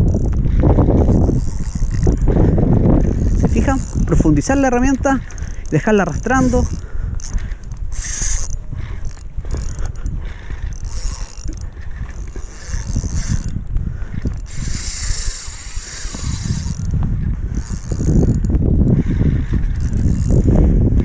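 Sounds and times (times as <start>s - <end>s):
spinning reel whirring and clicking: 0.0s - 21.0s.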